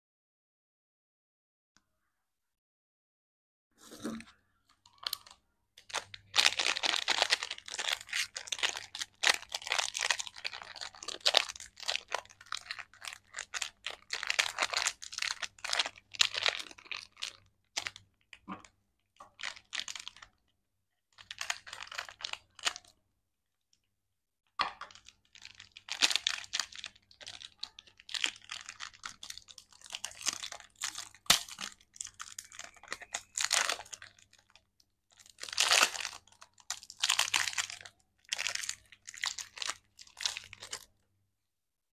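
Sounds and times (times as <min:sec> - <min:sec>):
plastic wrapper crinkling: 0:04.8 - 0:20.5, 0:21.2 - 0:23.0, 0:24.7 - 0:40.9.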